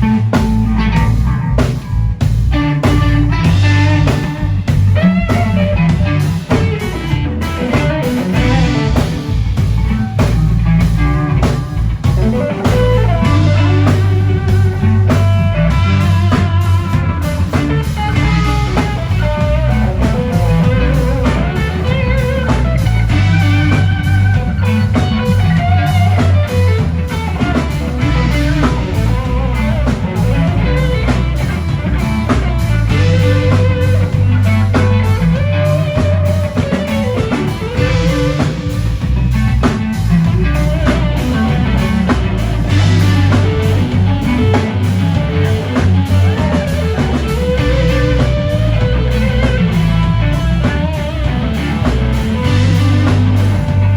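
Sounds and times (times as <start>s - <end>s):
bass guitar: 0.0s - 53.9s
drum kit steady beat: 0.0s - 53.9s
lead guitar bending notes: 0.0s - 53.9s.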